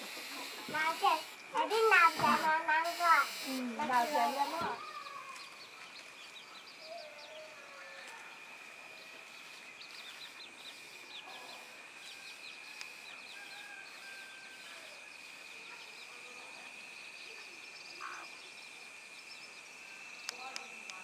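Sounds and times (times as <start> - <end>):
rapid high chirps: 0.0 - 5.0, 8.4 - 21.0
high-pitched insect drone: 0.0 - 5.8, 6.7 - 21.0.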